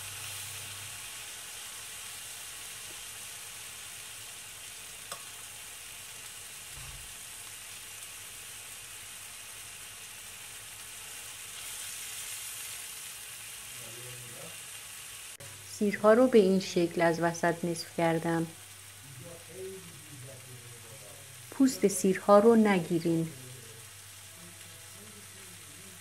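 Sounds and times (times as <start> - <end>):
steaks sizzling in a grill pan: 0.0 - 26.0.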